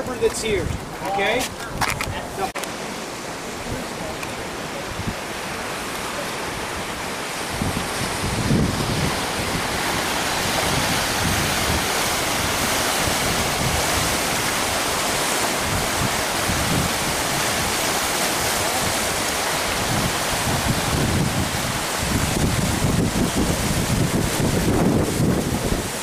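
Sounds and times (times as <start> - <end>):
wind buffeting microphone: 0.0 - 2.5, 3.2 - 26.0
surf breaking on rocks: 0.0 - 26.0.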